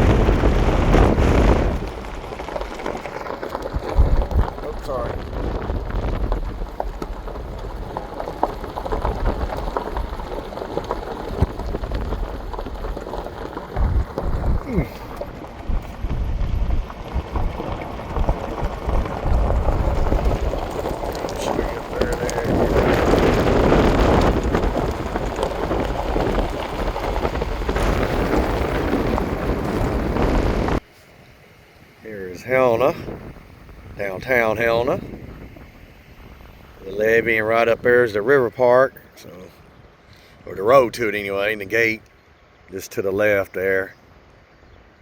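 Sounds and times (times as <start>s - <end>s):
wind buffeting microphone: 0.0s - 30.9s, 31.8s - 41.0s.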